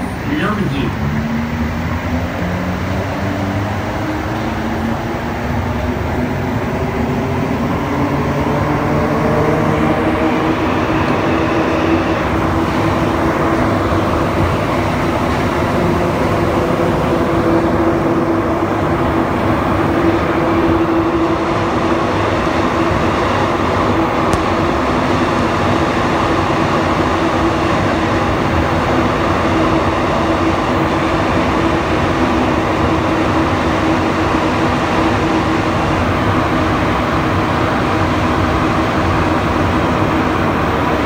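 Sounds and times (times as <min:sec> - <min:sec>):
train drive hum: 0:00.0 - 0:41.0
train running gear rumble: 0:00.0 - 0:41.0.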